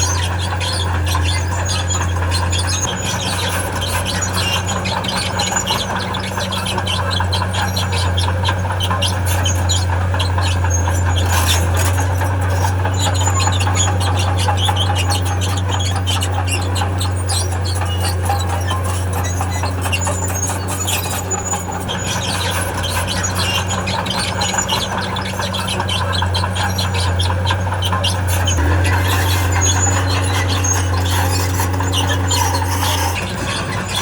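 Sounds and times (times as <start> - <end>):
bulldozer diesel engine running: 0.0 - 34.0
steel tracks squealing and clanking: 0.0 - 34.0.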